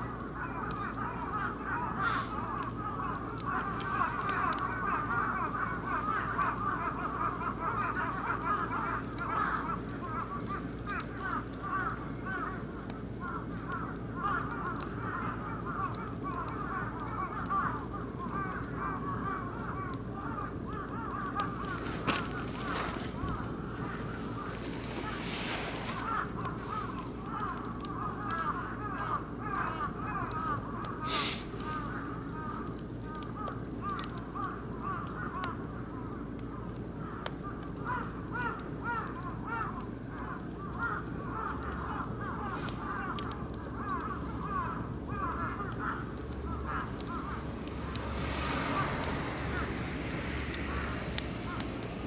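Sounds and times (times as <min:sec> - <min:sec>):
flock of birds calling: 0:00.0 - 0:52.0
wood fire crackling and popping: 0:00.0 - 0:52.0.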